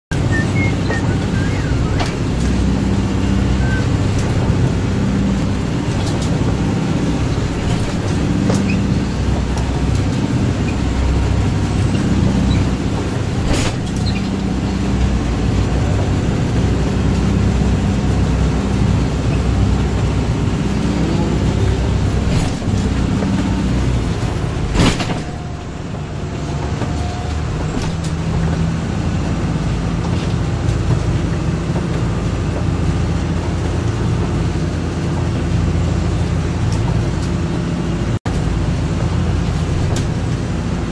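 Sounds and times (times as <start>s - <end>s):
boat engines low drone: 0.1s - 40.9s.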